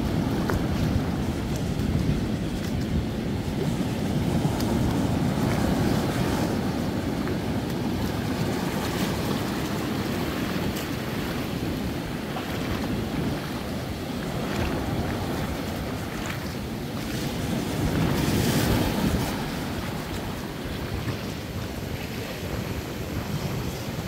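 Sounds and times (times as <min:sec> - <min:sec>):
surf breaking over rocks: 0:00.0 - 0:24.0.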